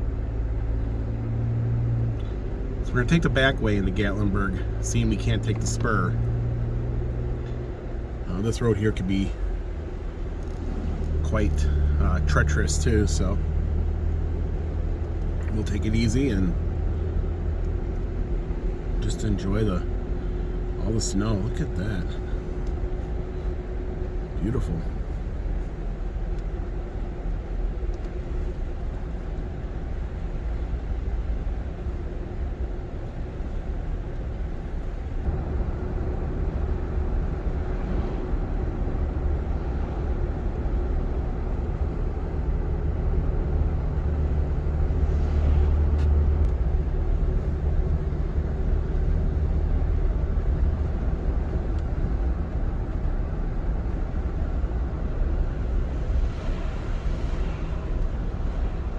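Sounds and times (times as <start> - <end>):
engine and tyre rumble: 0.0 - 58.9.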